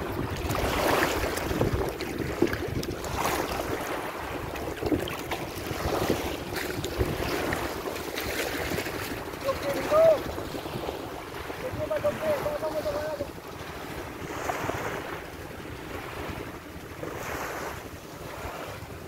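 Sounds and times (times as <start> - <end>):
small waves lapping: 0.0 - 19.0
wind buffeting microphone: 0.0 - 19.0.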